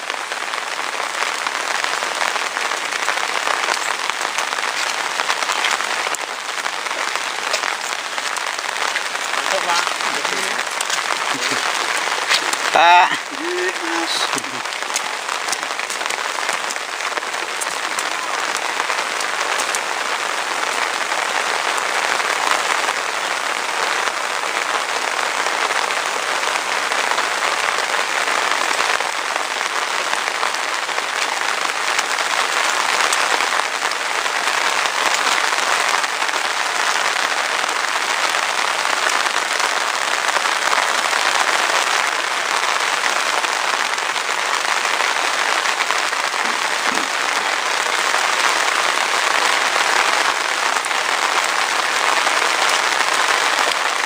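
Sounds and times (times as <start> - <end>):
dense rain falling: 0.0 - 54.0.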